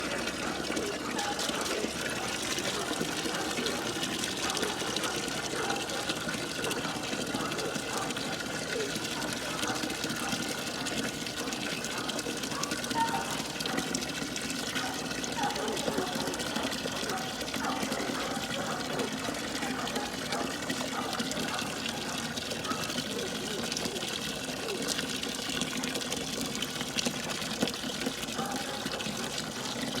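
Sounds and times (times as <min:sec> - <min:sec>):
water running into trough: 0:00.0 - 0:30.0.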